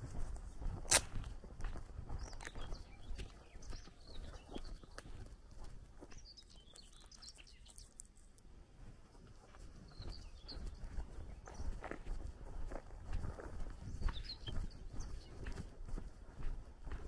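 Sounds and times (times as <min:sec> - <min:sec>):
footsteps on dirt track: 0:00.0 - 0:17.0
songbirds chirping: 0:00.0 - 0:17.0.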